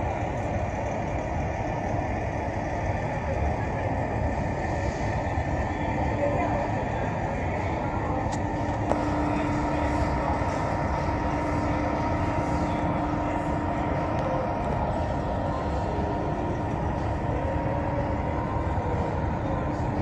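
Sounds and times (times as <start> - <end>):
rumbling mechanical hum: 0.0 - 20.0.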